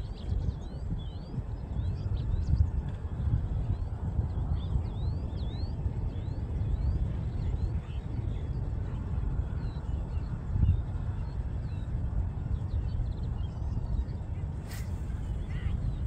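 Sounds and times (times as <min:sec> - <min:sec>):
small birds chirping: 0:00.0 - 0:16.0
wind buffeting microphone: 0:00.0 - 0:16.0.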